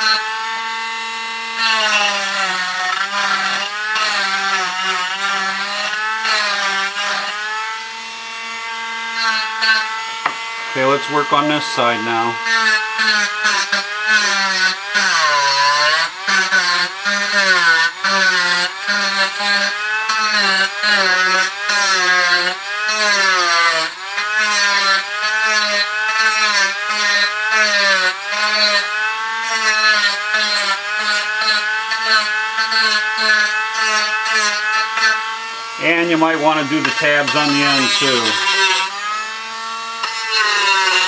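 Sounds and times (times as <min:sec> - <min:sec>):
rotary tool grinding wood: 0:00.0 - 0:41.0.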